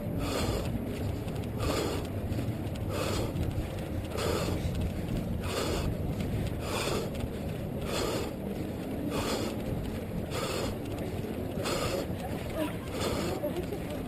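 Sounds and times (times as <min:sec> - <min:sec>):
wind and jostling rumble: 0:00.0 - 0:14.0.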